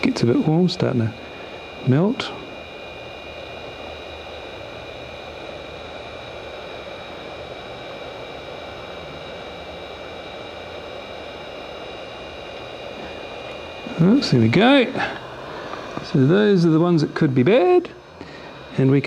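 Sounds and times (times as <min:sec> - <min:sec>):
blower fan hissing: 0:00.0 - 0:19.0
faint high whines: 0:00.0 - 0:19.0.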